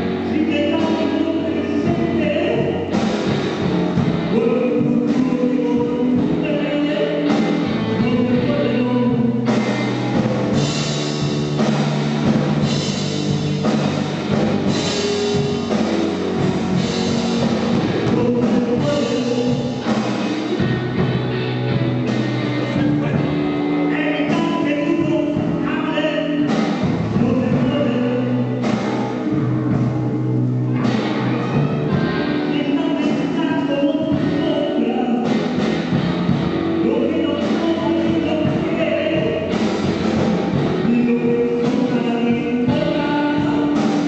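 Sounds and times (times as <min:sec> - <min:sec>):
rock song with singing: 0:00.0 - 0:44.0.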